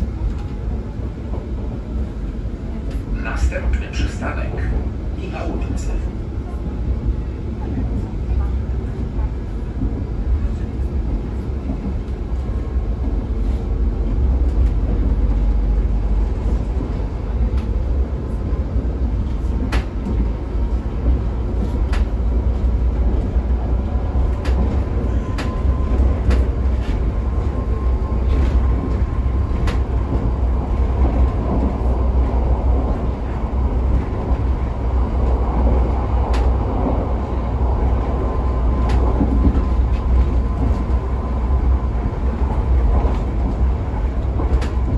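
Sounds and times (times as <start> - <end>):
train rumbling at speed: 0.0 - 44.9.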